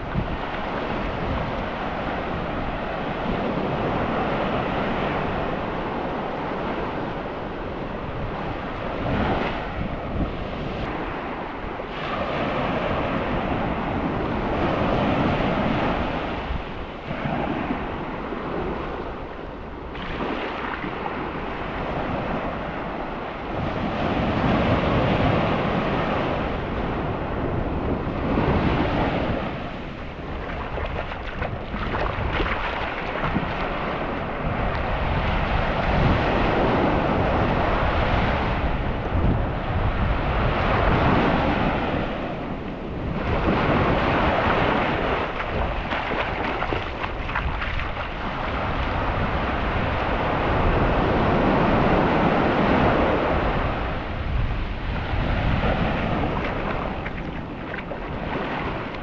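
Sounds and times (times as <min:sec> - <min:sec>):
surf washing onto beach: 0:00.0 - 0:59.0
wind buffeting microphone: 0:00.0 - 0:59.0.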